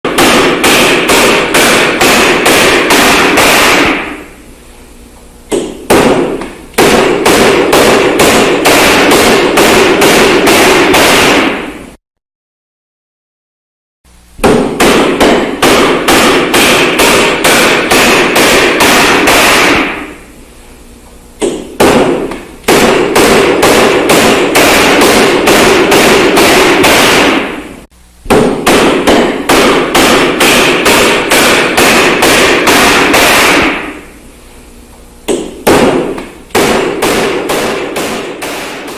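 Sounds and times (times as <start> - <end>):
rapid rhythmic slapping: 0.1 - 4.3, 5.5 - 11.7, 14.4 - 20.2, 21.4 - 27.6, 28.3 - 34.0, 35.3 - 38.9.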